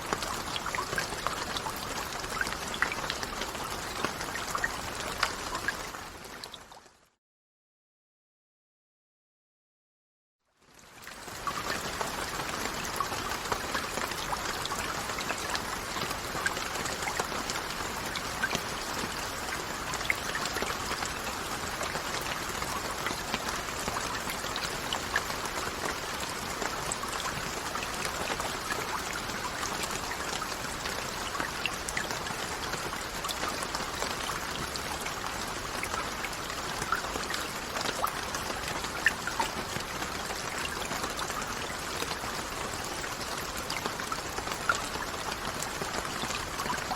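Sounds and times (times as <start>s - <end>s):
rain falling: 0.0s - 6.8s, 10.6s - 46.9s.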